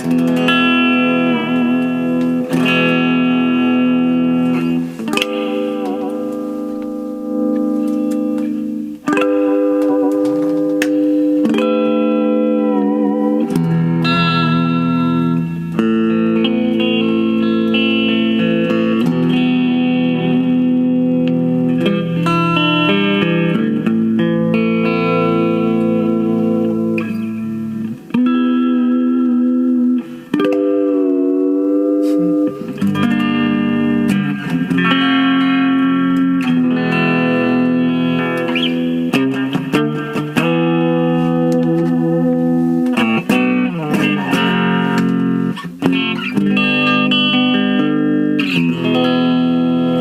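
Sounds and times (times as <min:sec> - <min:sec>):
electric guitar chords: 0:00.0 - 0:50.0
guitar tremolo pitch wobble: 0:00.0 - 0:50.0.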